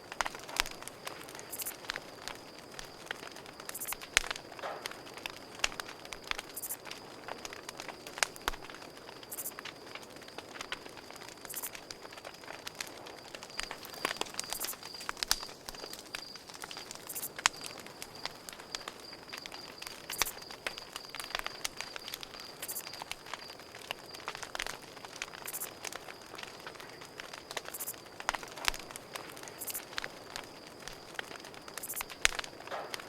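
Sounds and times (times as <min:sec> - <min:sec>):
campfire crackling: 0:00.0 - 0:33.0
cricket chirping: 0:00.0 - 0:33.0.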